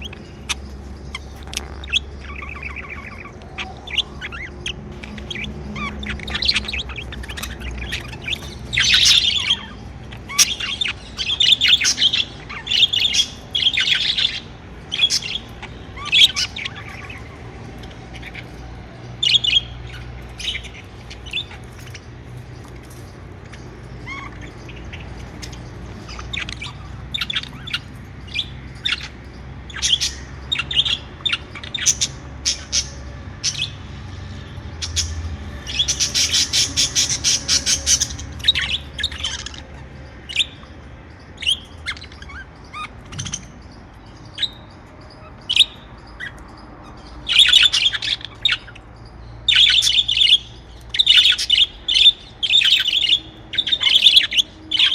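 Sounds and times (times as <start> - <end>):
budgerigars chirping: 0.0 - 54.9.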